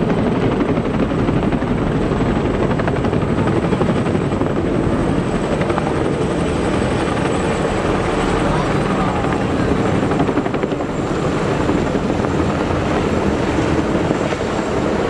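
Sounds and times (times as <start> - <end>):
helicopter rotors chopping: 0.0 - 15.0.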